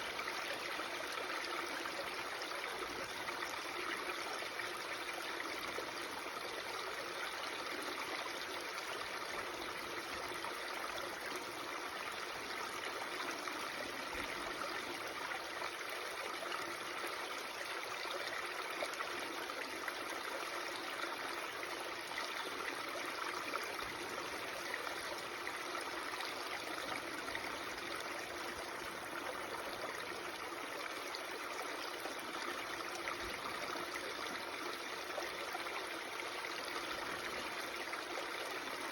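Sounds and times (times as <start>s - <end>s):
babbling stream: 0.0s - 38.9s.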